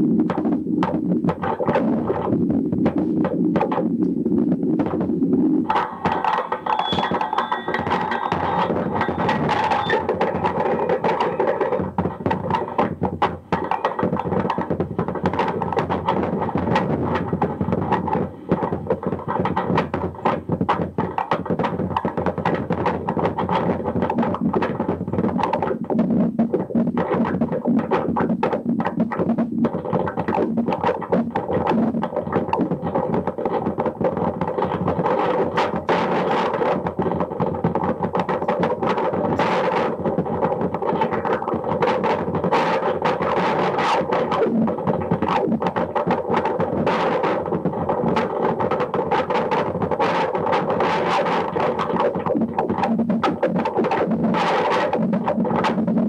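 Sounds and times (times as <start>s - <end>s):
dense noise music with clicks: 0.0s - 56.0s.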